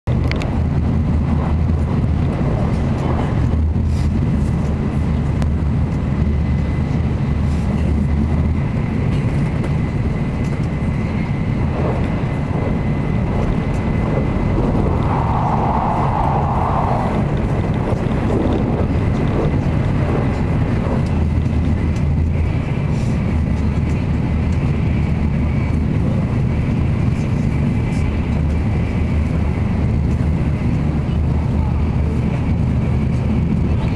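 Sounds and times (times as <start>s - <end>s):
train cabin low rumble: 0.1s - 33.9s.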